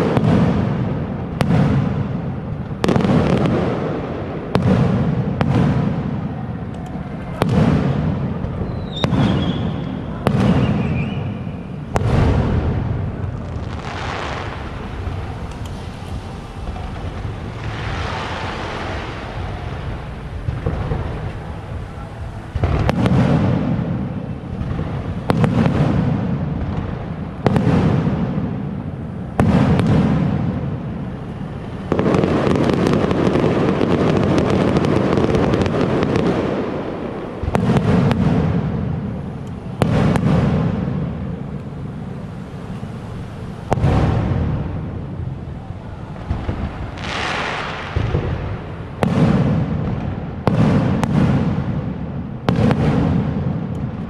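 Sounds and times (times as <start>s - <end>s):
firework booms echoing: 0.0s - 54.0s
firework crackling: 0.0s - 54.0s.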